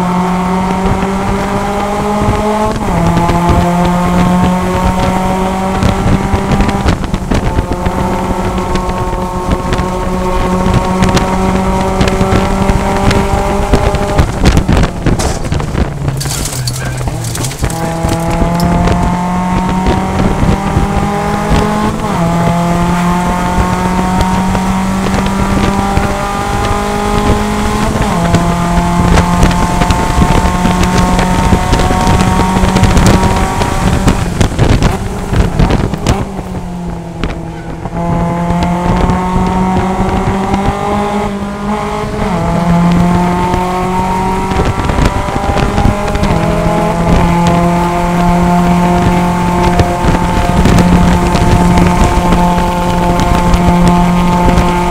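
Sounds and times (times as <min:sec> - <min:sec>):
race car engine at full throttle: 0:00.0 - 0:54.9.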